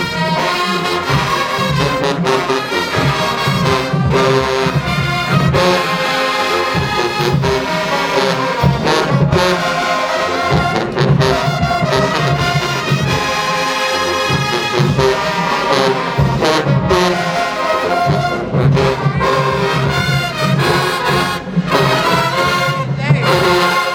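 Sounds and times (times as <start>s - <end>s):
marching band playing: 0.0s - 23.9s
drum hits: 1.0s - 23.9s.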